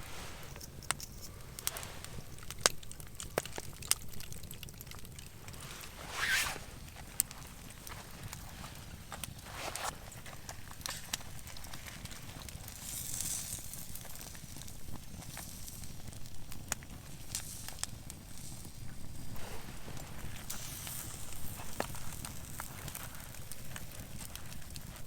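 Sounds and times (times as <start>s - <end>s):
campfire crackling: 0.0s - 25.0s
fire popping: 0.0s - 25.0s.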